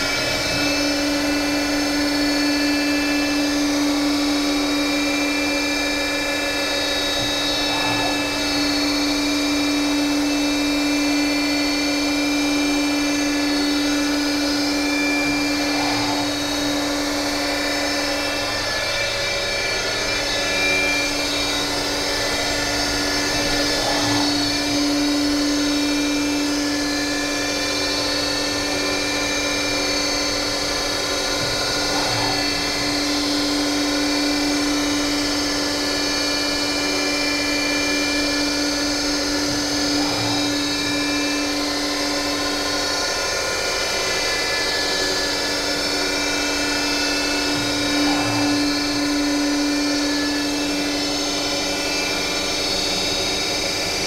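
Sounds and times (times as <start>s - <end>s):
lathe machine whine: 0.0s - 54.0s.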